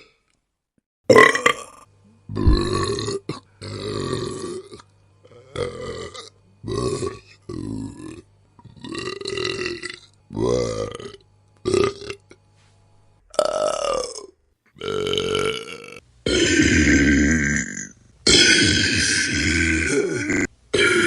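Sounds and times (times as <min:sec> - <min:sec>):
person burping: 0:01.1 - 0:12.3, 0:13.3 - 0:21.0.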